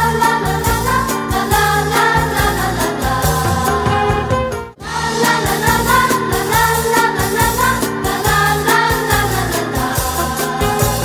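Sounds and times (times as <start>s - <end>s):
melodic background music: 0.0s - 11.0s.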